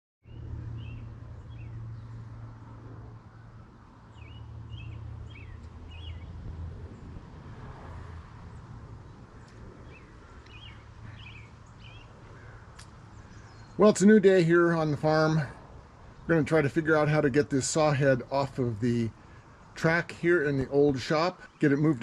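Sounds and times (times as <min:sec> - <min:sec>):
small birds chirping: 0:00.2 - 0:02.6, 0:03.2 - 0:07.1, 0:08.5 - 0:22.0.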